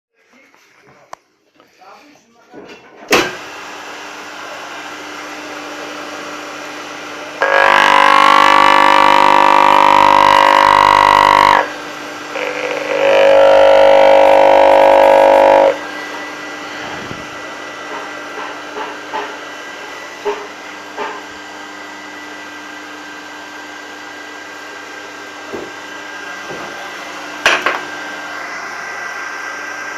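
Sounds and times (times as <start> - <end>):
electric motor humming and whining: 3.5 - 29.9.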